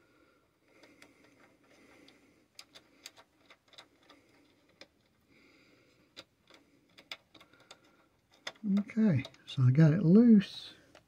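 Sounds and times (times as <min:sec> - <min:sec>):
faint plastic clicks and ticks: 0:00.3 - 0:11.0.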